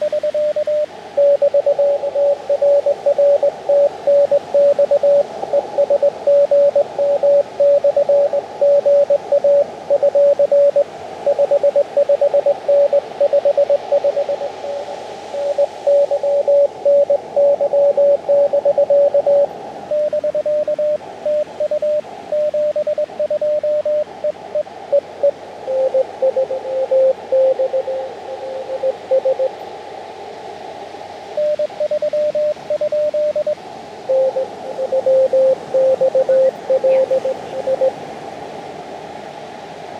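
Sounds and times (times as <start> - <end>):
morse code beeps: 0.0 - 14.8, 15.4 - 29.6, 31.4 - 38.0
radio band hiss: 0.0 - 38.2.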